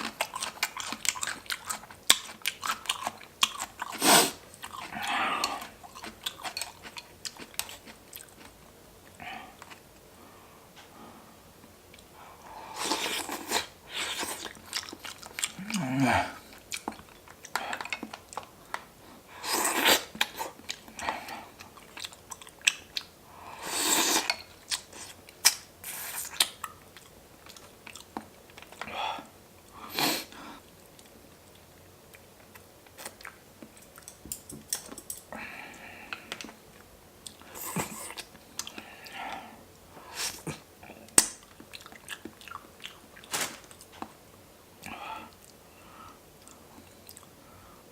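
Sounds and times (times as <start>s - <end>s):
chewing and crunching food: 0.0s - 10.1s, 12.7s - 23.2s, 24.0s - 29.0s, 29.6s - 44.2s, 44.8s - 47.5s.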